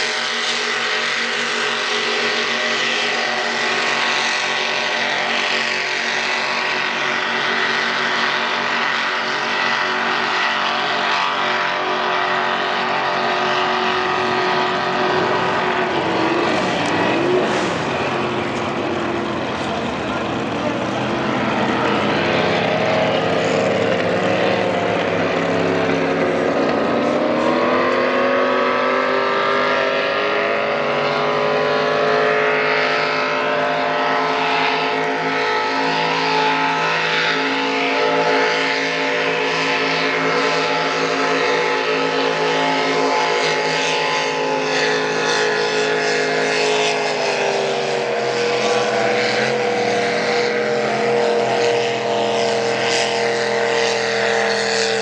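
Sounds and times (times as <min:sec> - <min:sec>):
distant racing boat engines: 0:00.0 - 0:55.0.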